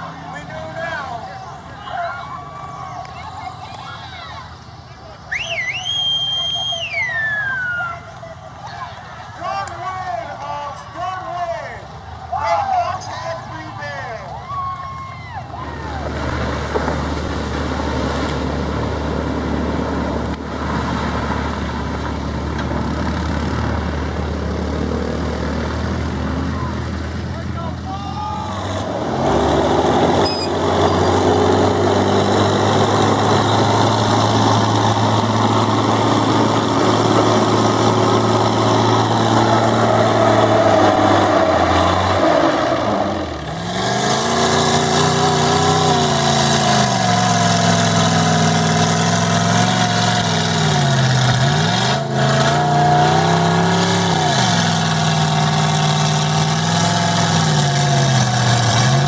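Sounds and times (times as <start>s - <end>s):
truck engine revving: 0.0s - 14.2s, 15.4s - 59.0s.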